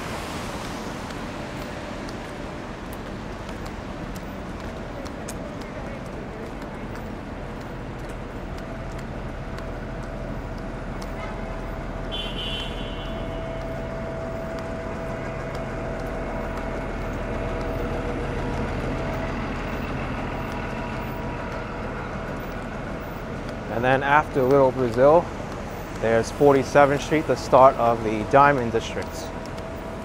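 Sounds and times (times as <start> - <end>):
street traffic passing: 0.0 - 30.0.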